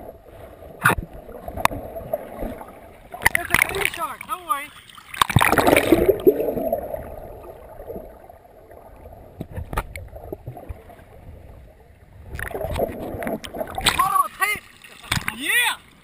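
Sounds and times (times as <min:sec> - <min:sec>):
water sloshing: 0:00.0 - 0:11.5, 0:12.2 - 0:16.0
underwater rush: 0:00.0 - 0:16.0.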